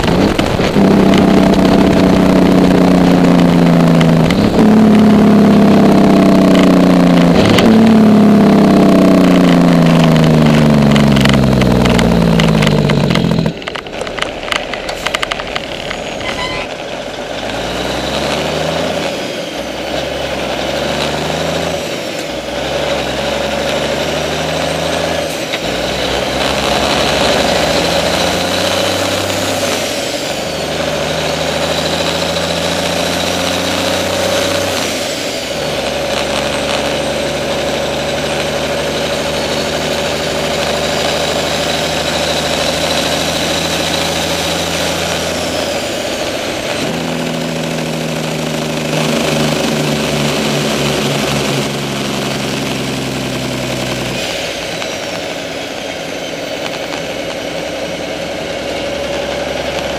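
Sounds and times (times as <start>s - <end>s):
drivetrain whine: 0.0s - 59.9s
truck engine running: 0.0s - 59.9s.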